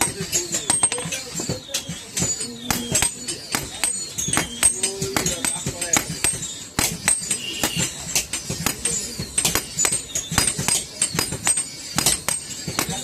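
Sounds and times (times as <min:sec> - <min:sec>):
hammer ringing on anvil: 0:00.0 - 0:13.0.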